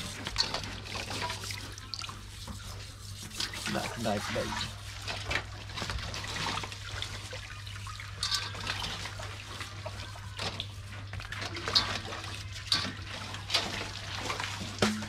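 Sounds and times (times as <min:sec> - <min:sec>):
water splashing in a metal basin: 0:00.0 - 0:15.0.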